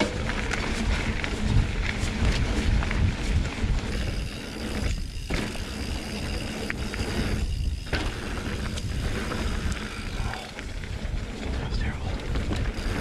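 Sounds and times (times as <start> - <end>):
bike rattles and clicks: 0.0 - 13.0
bike tyres rumbling on dirt: 0.0 - 13.0
wind buffeting microphone: 0.0 - 13.0
freehub ticking: 0.1 - 11.5, 12.2 - 13.0.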